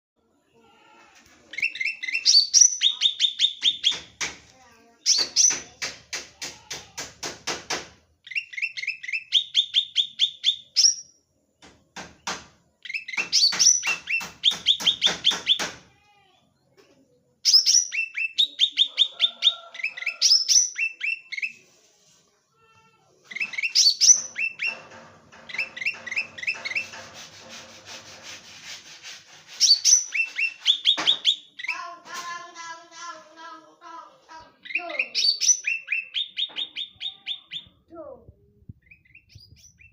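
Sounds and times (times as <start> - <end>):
songbird chirping: 0.2 - 7.4, 8.2 - 15.8, 16.5 - 22.4, 23.2 - 27.2, 29.6 - 39.9.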